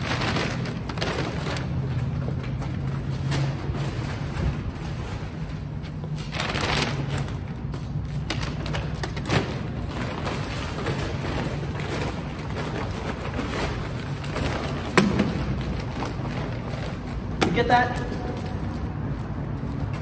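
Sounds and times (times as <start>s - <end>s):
grocery bags rustling: 0.0s - 19.9s.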